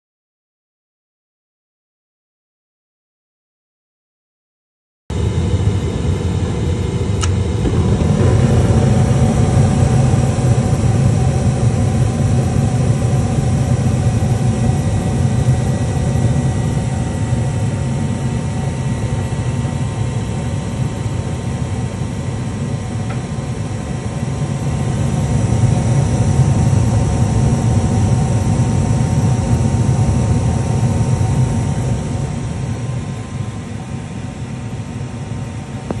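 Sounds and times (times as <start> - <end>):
furnace motor hum and rumble: 5.1 - 36.0.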